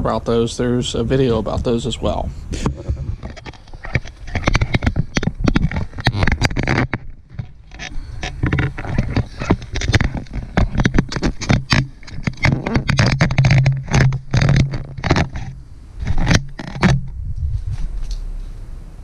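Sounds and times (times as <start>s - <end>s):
crunching and scraping: 0.0s - 18.7s
low steady hum: 0.0s - 19.0s.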